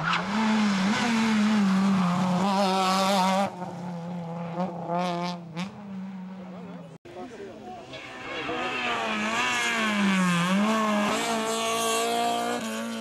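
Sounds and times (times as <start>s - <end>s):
rally car engine revving: 0.1s - 6.8s, 7.8s - 13.0s.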